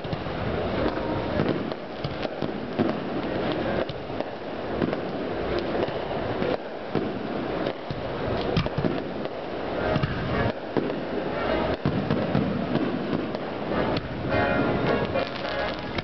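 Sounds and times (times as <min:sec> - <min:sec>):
fireworks launching and bursting: 0:00.0 - 0:16.0.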